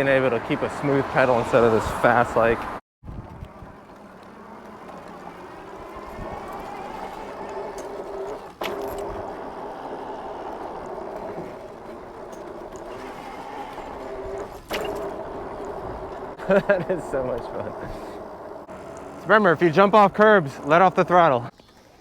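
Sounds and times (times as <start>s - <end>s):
tyre and wind noise: 0.0s - 20.7s
electric bike motor whining: 3.1s - 21.5s.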